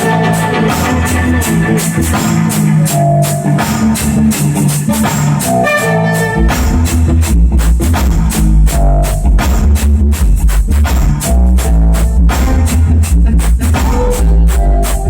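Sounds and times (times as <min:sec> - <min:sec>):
loud music with drum beat: 0:00.0 - 0:15.0.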